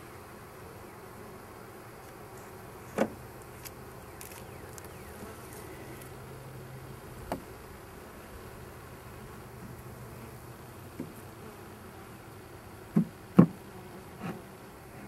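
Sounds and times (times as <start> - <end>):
bee droning close by: 0.0 - 15.0
bees buzzing: 0.0 - 15.0.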